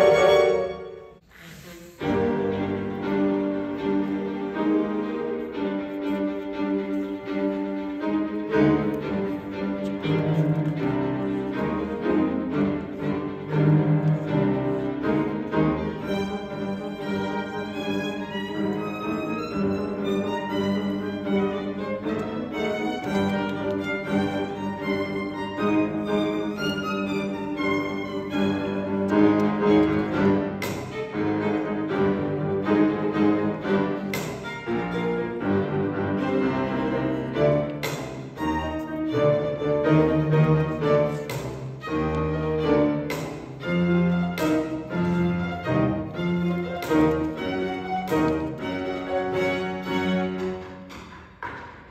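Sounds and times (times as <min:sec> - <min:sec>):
string trio playing classical piece: 0:00.0 - 0:51.9.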